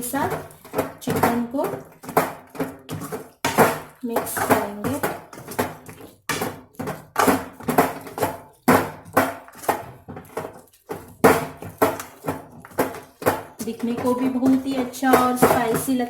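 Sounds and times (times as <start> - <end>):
spoon scraping metal pan: 0.0 - 16.0.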